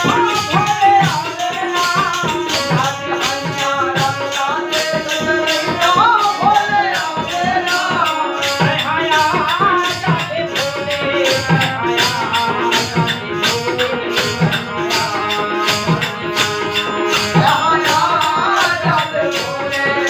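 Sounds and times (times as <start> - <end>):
group singing: 0.0 - 20.0
hand drums: 0.0 - 20.0
harmonium chords: 0.0 - 20.0.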